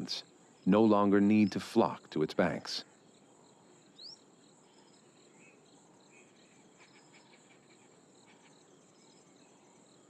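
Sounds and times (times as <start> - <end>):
insect chirping: 0.0 - 10.0
insects trilling: 0.0 - 10.0.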